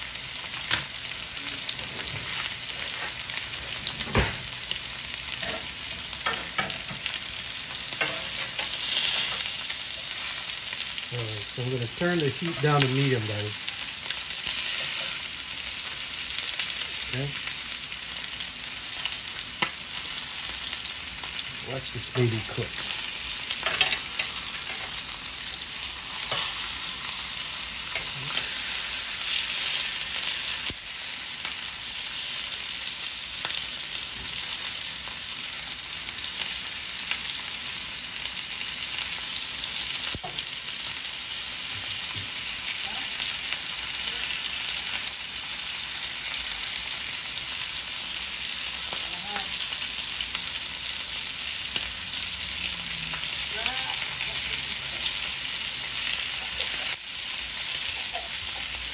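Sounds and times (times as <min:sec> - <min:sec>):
steaks sizzling in pan: 0:00.0 - 0:58.9.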